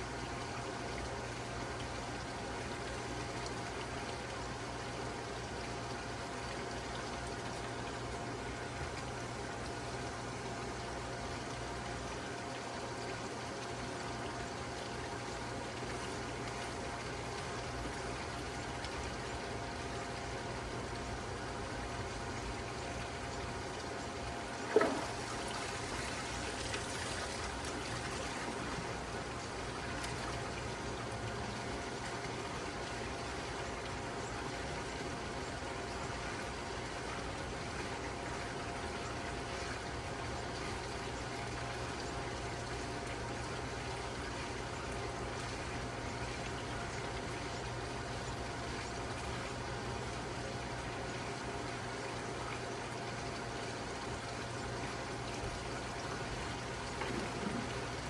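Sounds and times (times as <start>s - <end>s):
water pouring and trickling: 0.1s - 58.0s.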